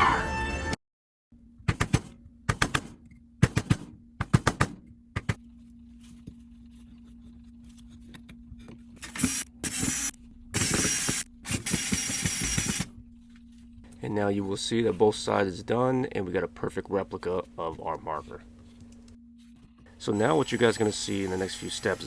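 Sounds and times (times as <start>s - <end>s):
steady low hum: 1.4s - 21.9s.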